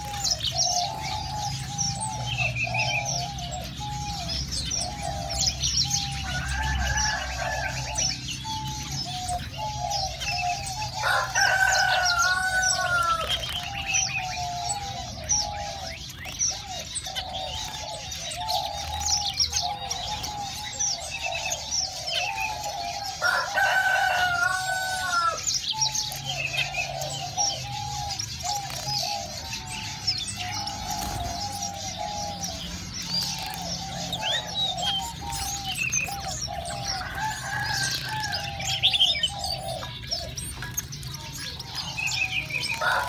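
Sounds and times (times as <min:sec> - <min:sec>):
birds calling: 0:00.0 - 0:43.0.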